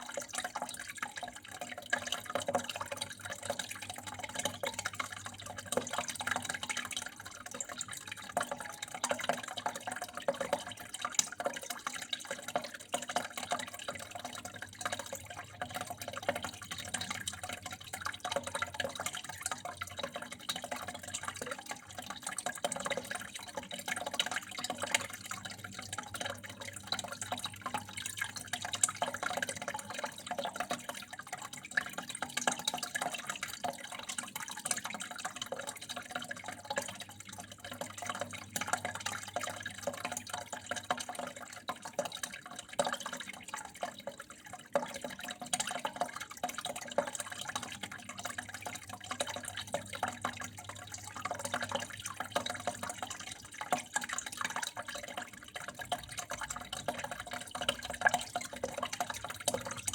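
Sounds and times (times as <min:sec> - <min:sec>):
small drips and splashes: 0:00.0 - 0:59.9
water flowing and trickling: 0:00.0 - 0:59.9.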